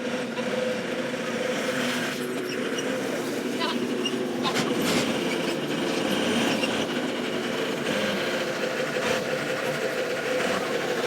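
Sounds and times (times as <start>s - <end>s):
vehicle running drone: 0.0s - 11.0s.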